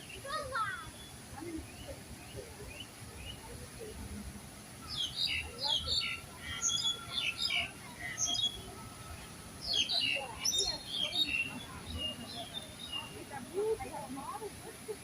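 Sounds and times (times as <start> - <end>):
birds chirping: 0.0 - 3.9, 4.6 - 14.5
low background noise: 0.0 - 15.0.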